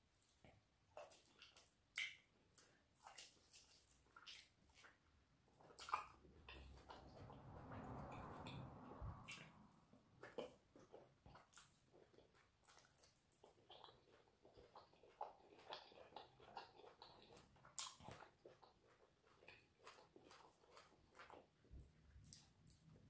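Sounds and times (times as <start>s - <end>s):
wet chewing with lip smacks: 0.9s - 23.0s.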